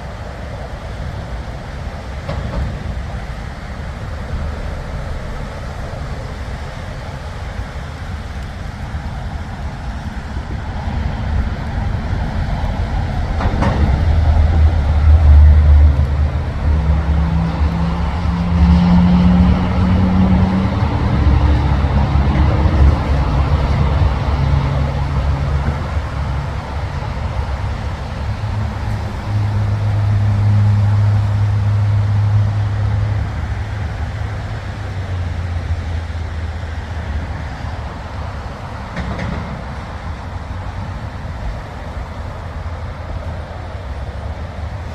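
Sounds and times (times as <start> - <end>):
low rumble of freeway traffic: 0.0 - 44.9.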